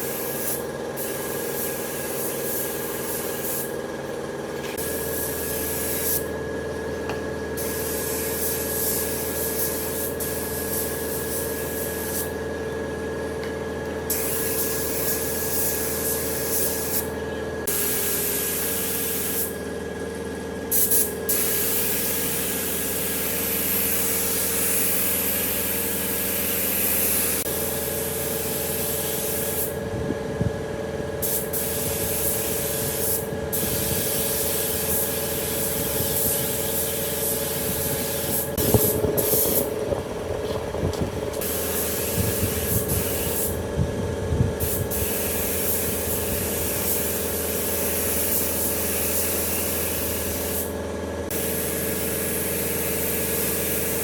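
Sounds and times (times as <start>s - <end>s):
motor hum: 0.0s - 52.4s.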